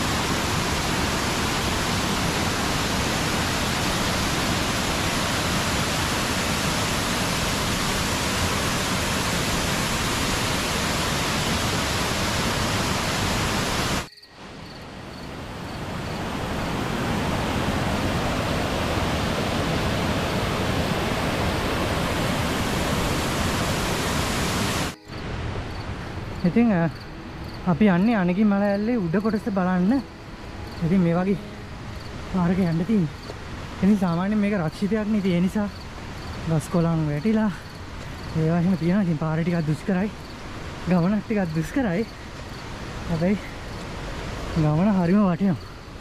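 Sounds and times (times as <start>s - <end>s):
waterfall rushing: 0.0s - 14.6s, 15.3s - 46.0s.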